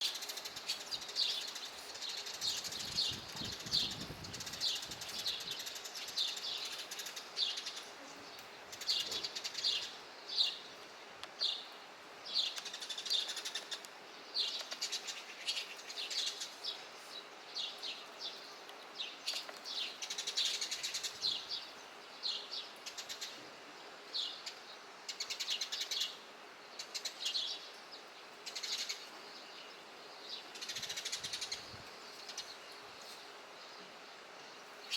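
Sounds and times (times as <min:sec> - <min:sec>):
sparrows chirping: 0:00.0 - 0:34.9.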